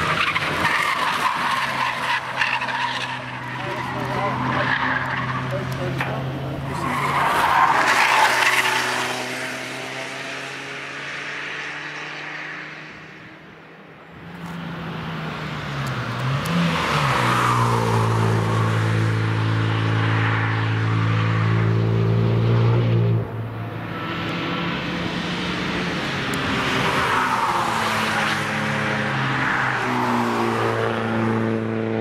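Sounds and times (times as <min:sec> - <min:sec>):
race car engine at high revs: 0:00.0 - 0:13.6, 0:14.2 - 0:32.0
race car passing: 0:00.0 - 0:13.6, 0:14.2 - 0:32.0.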